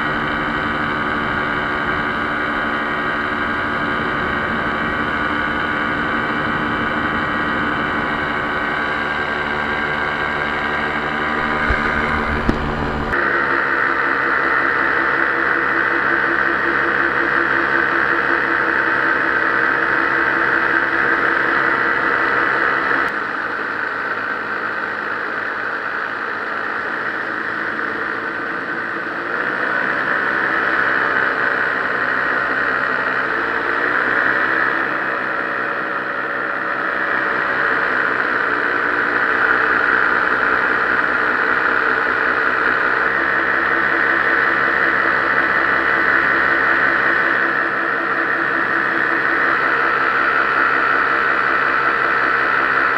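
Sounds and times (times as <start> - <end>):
paramotor engine and propeller: 0.0 - 52.9.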